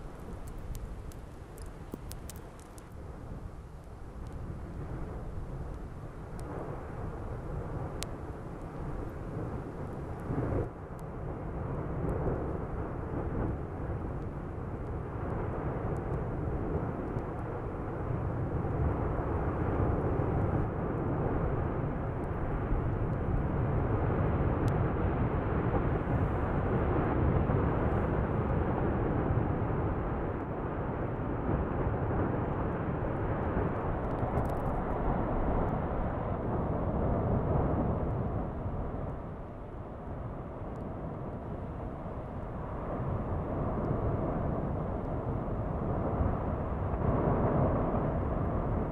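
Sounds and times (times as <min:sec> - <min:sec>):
lava fountaining deep rushing rumble: 0:00.0 - 0:48.9.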